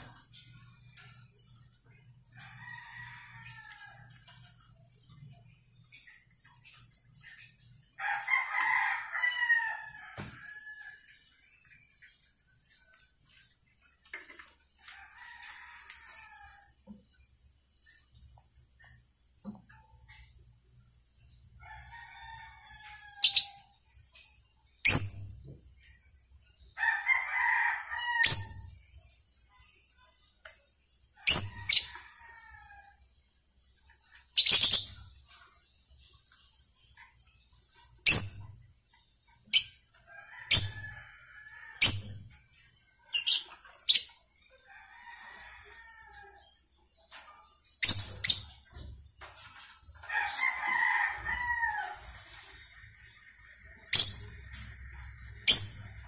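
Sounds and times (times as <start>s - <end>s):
birds chattering: 0.0s - 56.0s.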